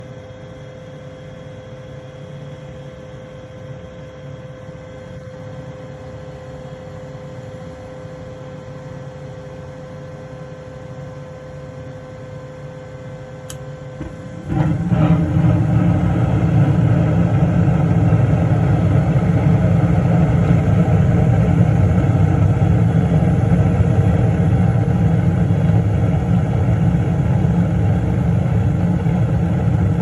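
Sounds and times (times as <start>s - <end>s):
furnace motor hum: 0.0s - 30.0s.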